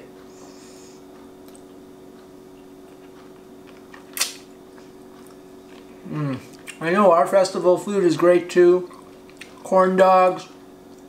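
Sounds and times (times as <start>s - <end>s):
steady room hum: 0.0s - 11.0s.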